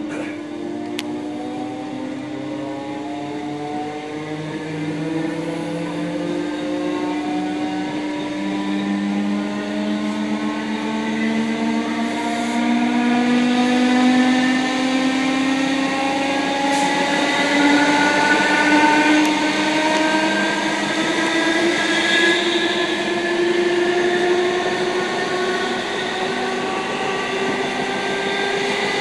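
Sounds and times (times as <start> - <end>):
train drive whine: 0.0 - 29.0
train wheels rumbling on track: 0.0 - 29.0.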